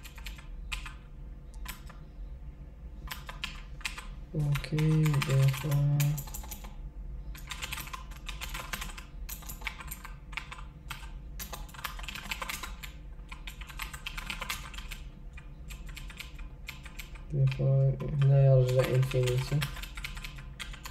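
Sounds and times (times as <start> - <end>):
keyboard typing clicks: 0.0 - 2.0, 3.0 - 20.9.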